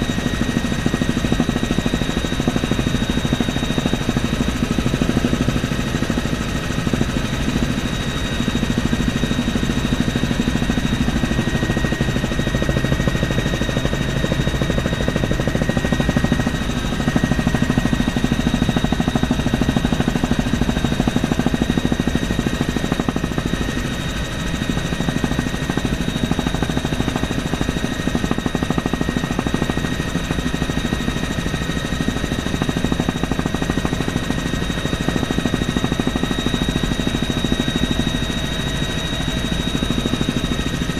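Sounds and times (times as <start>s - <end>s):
helicopter engine and rotor noise: 0.0s - 40.9s.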